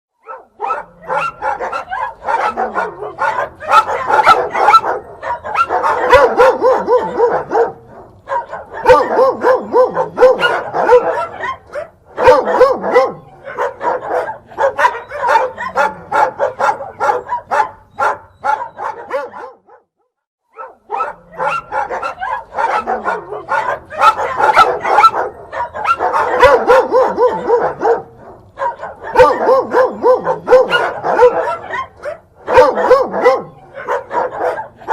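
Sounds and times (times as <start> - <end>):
dog and puppies barking: 0.2 - 34.9.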